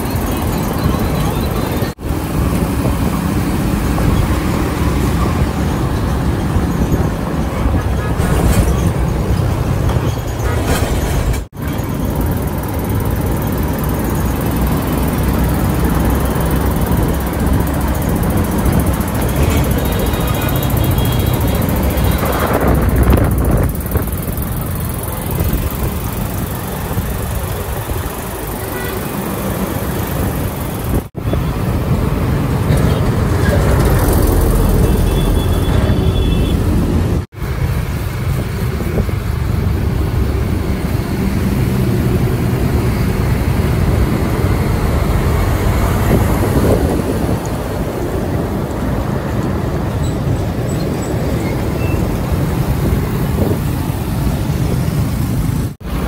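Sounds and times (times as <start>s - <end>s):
trucks driving past: 0.0s - 56.0s.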